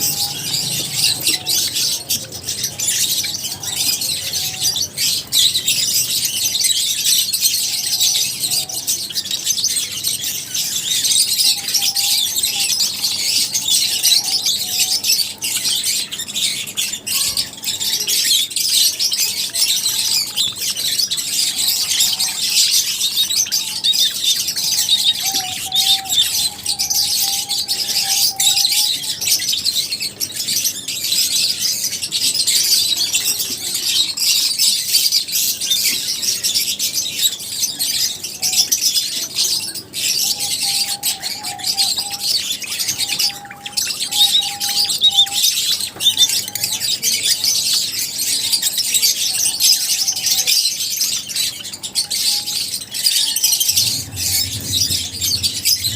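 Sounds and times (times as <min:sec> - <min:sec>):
lovebirds chirping and chattering: 0:00.0 - 0:55.9.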